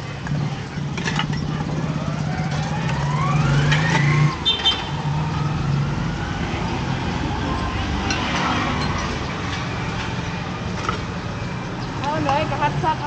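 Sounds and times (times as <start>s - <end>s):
engine running low hum: 0.2s - 13.0s.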